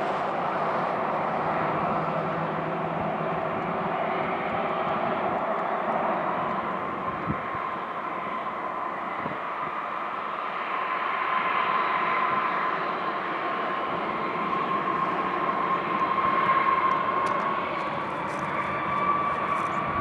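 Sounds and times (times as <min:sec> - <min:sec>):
jet airliner engine whine: 0:00.0 - 0:20.0.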